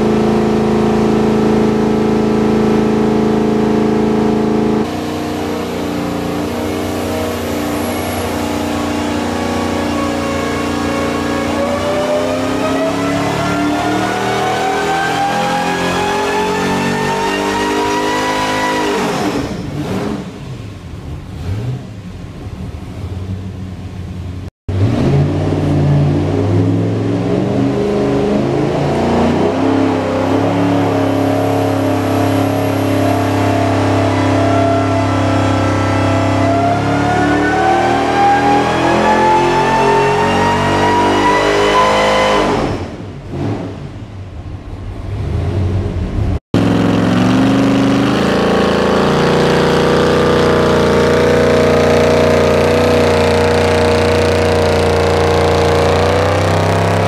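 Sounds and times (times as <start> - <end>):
supercharged engine revving: 0.0 - 22.7, 24.7 - 57.0.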